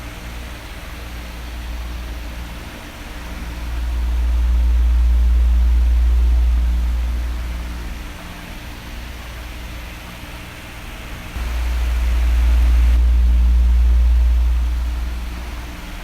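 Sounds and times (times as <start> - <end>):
electric fan hissing: 0.0 - 16.0
air rumble on microphone: 1.4 - 9.8, 11.3 - 16.0.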